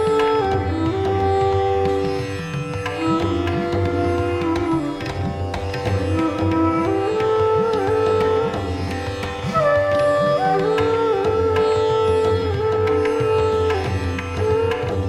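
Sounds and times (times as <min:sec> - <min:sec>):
string melody with bending notes: 0:00.0 - 0:15.0.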